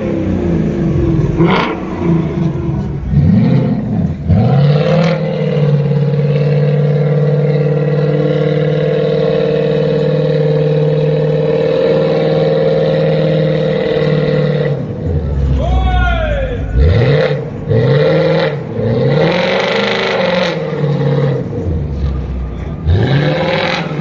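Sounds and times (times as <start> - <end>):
sports car engine revving: 0.0 - 24.0.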